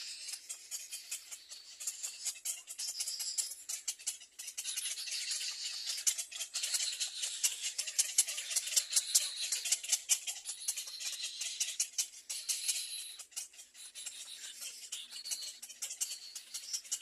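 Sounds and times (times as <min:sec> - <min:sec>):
baby birds rasping rattle: 0:00.0 - 0:17.0.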